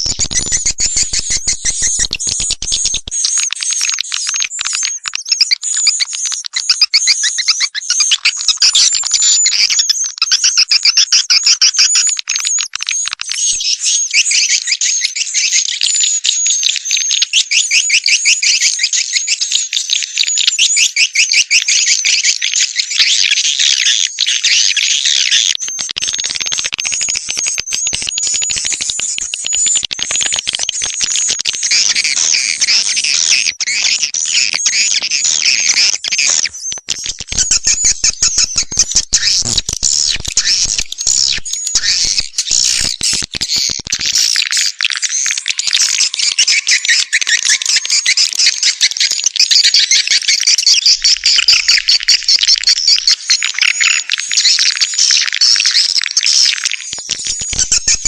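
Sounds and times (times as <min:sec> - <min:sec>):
swiftlets twittering and clicking: 0:00.0 - 0:58.0.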